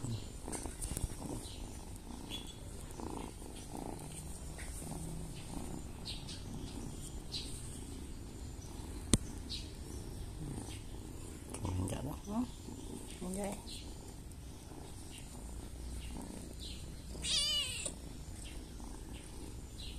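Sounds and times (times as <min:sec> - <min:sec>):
cat purring: 0:00.0 - 0:19.9.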